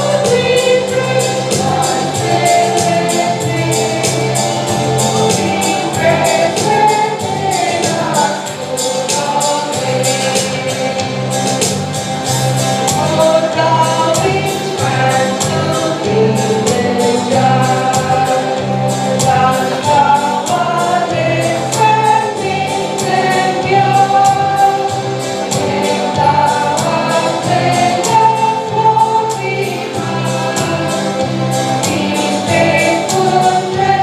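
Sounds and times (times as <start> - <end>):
bass line: 0.0 - 34.0
percussion beat: 0.0 - 34.0
women's choir singing a hymn: 0.0 - 34.0.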